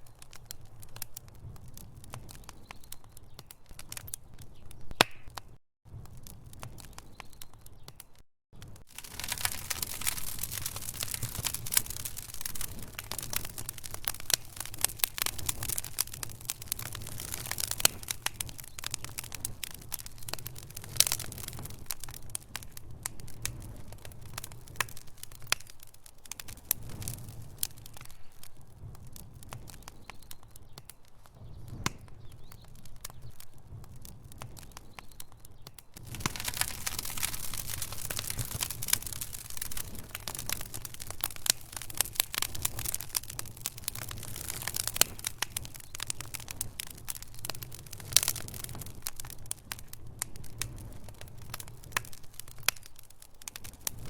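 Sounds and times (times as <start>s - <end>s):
fire low rumble: 0.0s - 8.0s, 8.6s - 54.0s
wood fire crackling and popping: 0.0s - 54.0s.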